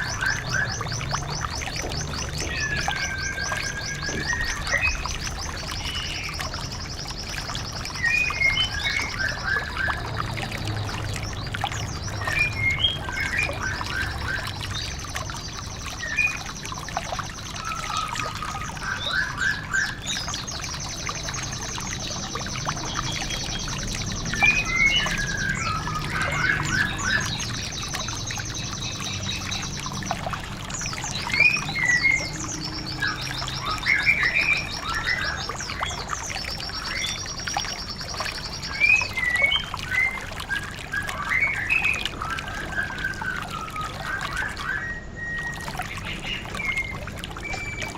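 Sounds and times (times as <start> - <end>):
bird chirping phrases: 0.0 - 47.9
trickling water: 0.0 - 47.9.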